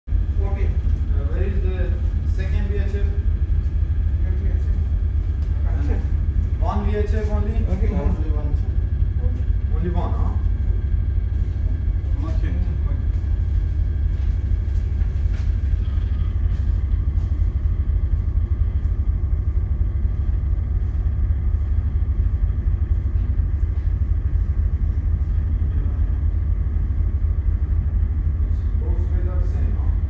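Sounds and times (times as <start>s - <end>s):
ship engine rumbling: 0.1s - 30.0s.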